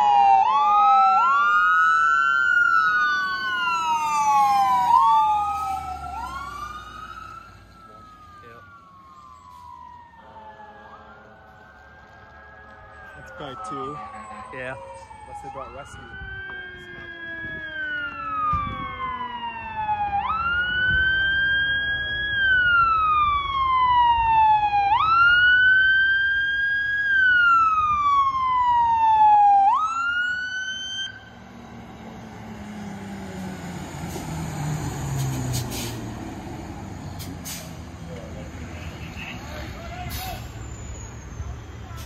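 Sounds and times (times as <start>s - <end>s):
fire engine motor rumbling: 0.0s - 42.0s
fire engine siren wailing: 0.0s - 42.0s.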